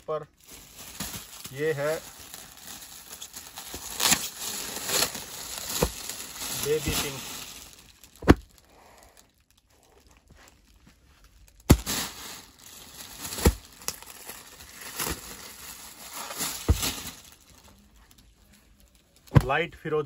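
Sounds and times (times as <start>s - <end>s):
plastic wrapping crinkling: 0.3s - 19.6s.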